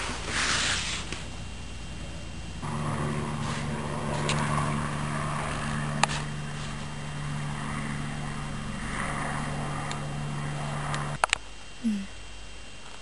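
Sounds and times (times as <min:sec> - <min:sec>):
background hiss: 0:00.0 - 0:13.0
low mechanical hum: 0:00.0 - 0:13.0.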